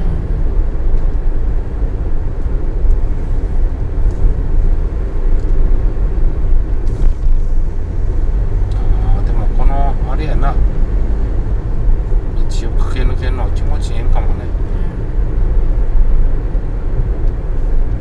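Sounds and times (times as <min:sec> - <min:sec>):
car interior road and engine rumble: 0:00.0 - 0:18.0.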